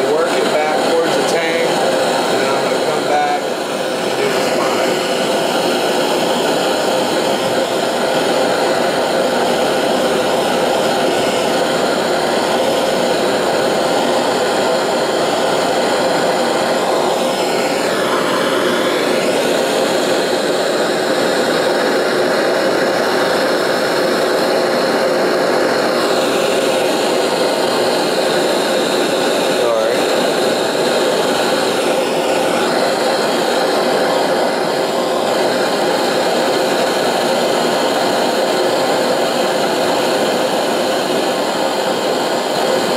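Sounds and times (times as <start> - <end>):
gas torch flame rushing: 0.0 - 42.9.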